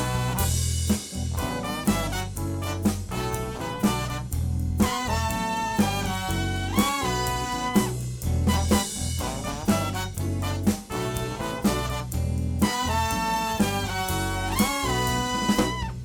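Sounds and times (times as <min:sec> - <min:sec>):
bass line: 0:00.0 - 0:16.0
drums accenting: 0:00.0 - 0:16.0
held horn line: 0:00.0 - 0:16.0
soul band playing: 0:00.0 - 0:16.0.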